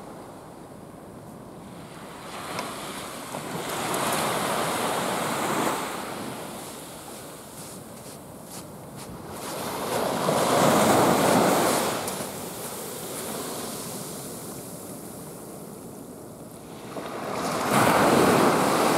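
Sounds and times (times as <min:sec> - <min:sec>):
small waves breaking on beach: 0:01.7 - 0:18.9.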